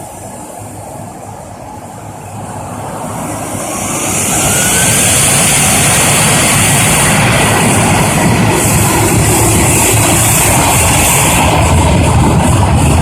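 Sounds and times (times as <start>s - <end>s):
airplane engines roaring: 0.0s - 13.0s.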